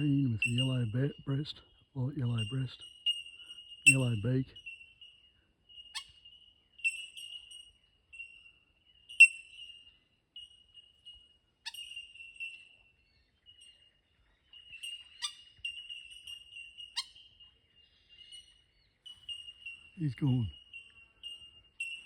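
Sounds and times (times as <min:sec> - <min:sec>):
bell-like bird calls: 0:00.0 - 0:22.0.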